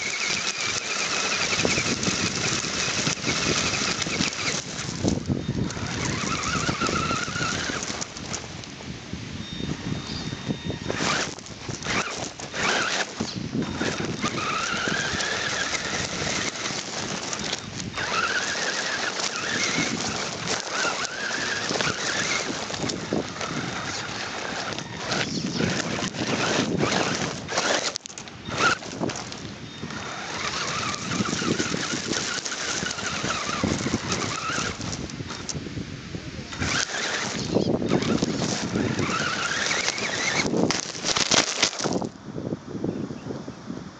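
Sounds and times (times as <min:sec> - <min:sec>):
stones crunching under tyres: 0:00.0 - 0:09.2, 0:10.6 - 0:42.2
toy car motor and gears whining: 0:00.0 - 0:35.8, 0:36.4 - 0:42.2.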